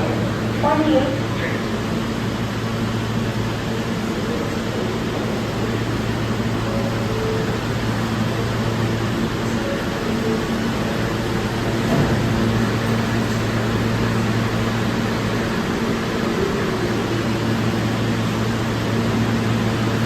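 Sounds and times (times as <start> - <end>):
station equipment and ventilation hum: 0.0 - 20.0.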